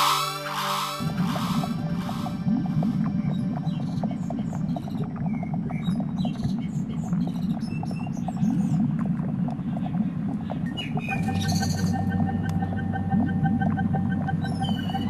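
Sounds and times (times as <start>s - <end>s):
birds chirping: 0.0s - 8.9s, 9.6s - 15.0s
low hum: 0.0s - 15.0s
steady pulsing tone: 0.0s - 15.0s
dense low rumble: 1.0s - 15.0s.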